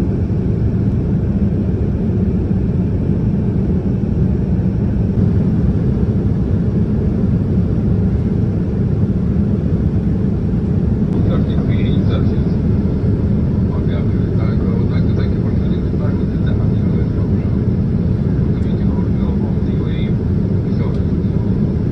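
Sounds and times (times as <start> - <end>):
airplane cabin engine rumble: 0.0 - 21.9.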